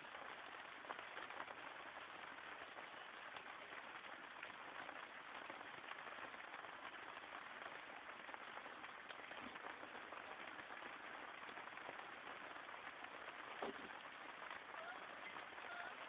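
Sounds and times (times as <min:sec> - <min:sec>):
faint hiss with crackle: 0:00.0 - 0:16.0.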